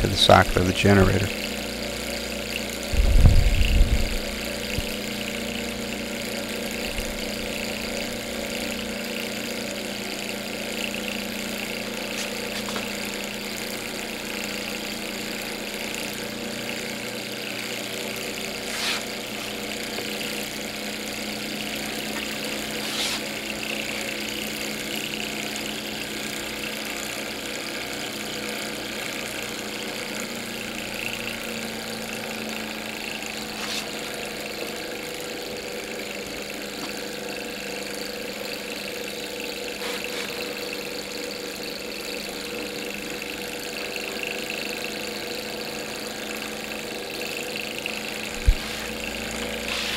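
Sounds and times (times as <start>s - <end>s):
engine mechanical hum: 0.0s - 41.8s, 42.4s - 49.9s.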